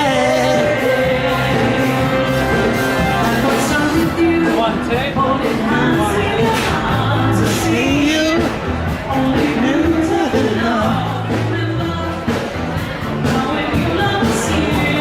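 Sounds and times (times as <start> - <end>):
pop-rock song with singer: 0.0 - 15.0.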